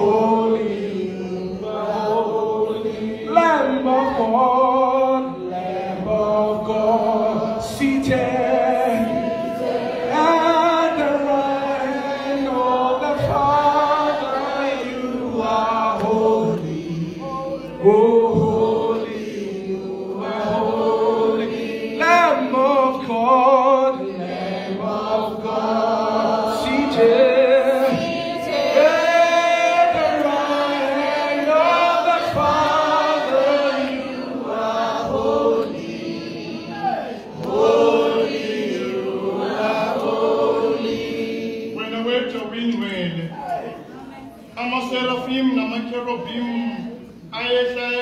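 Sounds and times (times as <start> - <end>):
congregation singing a hymn: 0.0 - 48.0.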